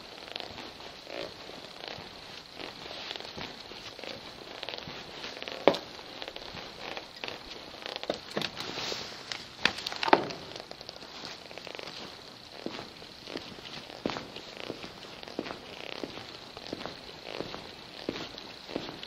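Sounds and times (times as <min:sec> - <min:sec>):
footsteps crunching: 0:00.0 - 0:19.0
loud snaps underfoot: 0:00.0 - 0:19.0.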